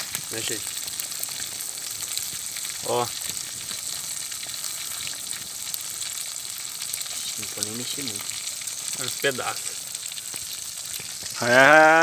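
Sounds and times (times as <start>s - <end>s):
fish sizzling in hot oil: 0.0s - 12.0s
oil popping: 0.0s - 12.0s.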